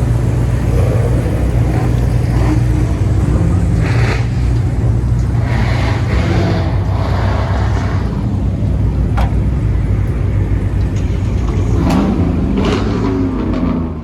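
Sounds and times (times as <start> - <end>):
car engine exhaust rumble: 0.0 - 14.0.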